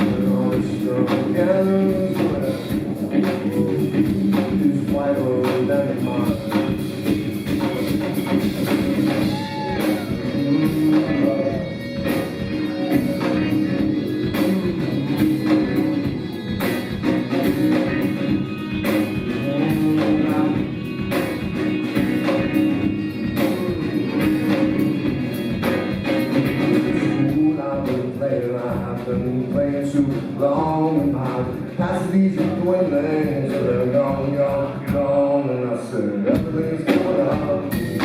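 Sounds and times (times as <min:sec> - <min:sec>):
drums beating: 0:00.0 - 0:35.3, 0:36.3 - 0:38.0
live rock band playing: 0:00.0 - 0:38.0.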